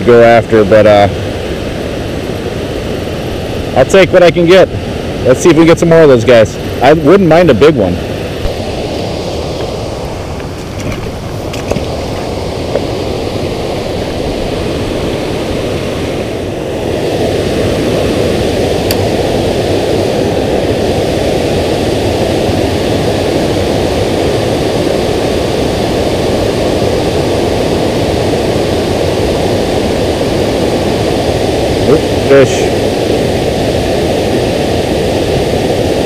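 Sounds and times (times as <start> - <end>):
water rushing over a dam: 0.0 - 36.0.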